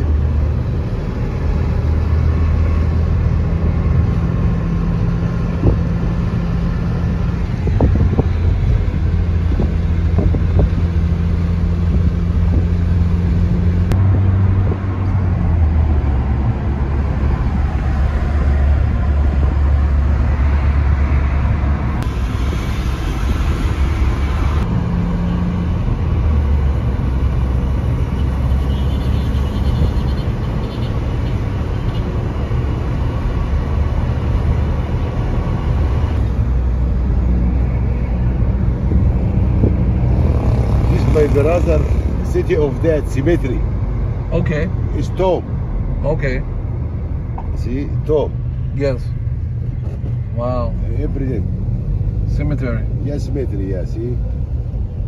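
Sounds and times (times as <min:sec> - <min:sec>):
car engine hum: 0:00.0 - 0:55.0
road and tyre noise: 0:00.0 - 0:55.0.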